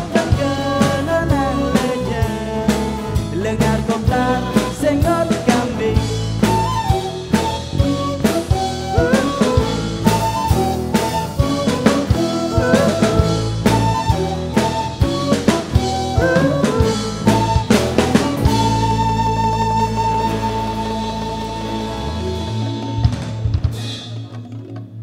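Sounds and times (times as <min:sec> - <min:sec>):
drum kit hits and fills: 0:00.0 - 0:25.0
sustained melodic instruments: 0:00.0 - 0:25.0.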